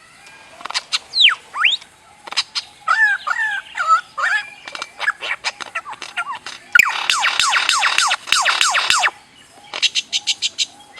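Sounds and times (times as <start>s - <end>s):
bird calling with clicks and whistles: 0.6s - 10.9s.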